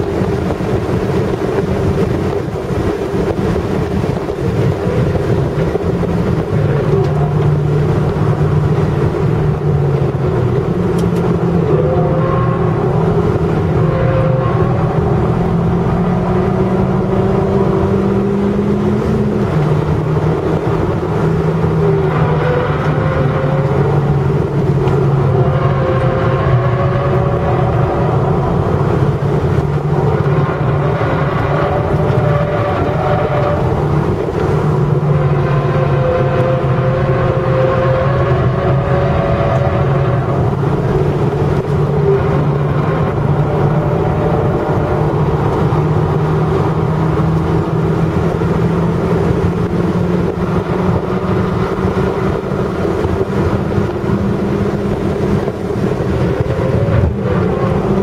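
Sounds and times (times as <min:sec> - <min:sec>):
car engine under load: 0:00.0 - 0:58.0
tyre and road noise: 0:00.0 - 0:58.0.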